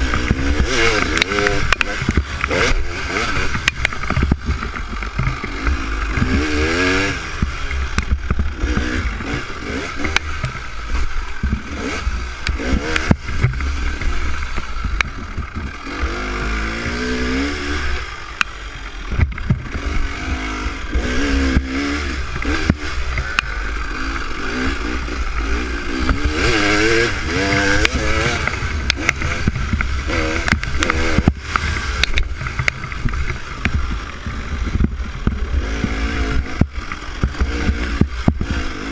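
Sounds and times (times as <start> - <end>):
dirt bike engine revving: 0.0 - 38.9
sharp knocks and clatter: 0.0 - 38.9.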